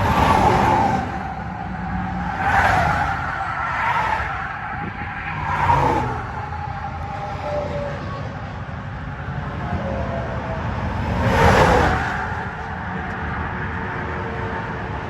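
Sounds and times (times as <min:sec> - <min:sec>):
road vehicle rushing past: 0:00.0 - 0:15.0.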